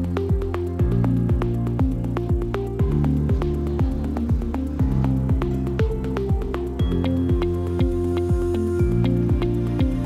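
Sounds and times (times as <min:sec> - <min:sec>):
bass and synth notes: 0:00.0 - 0:10.0
steady kick drum: 0:00.0 - 0:10.0
upbeat background music: 0:00.0 - 0:10.0.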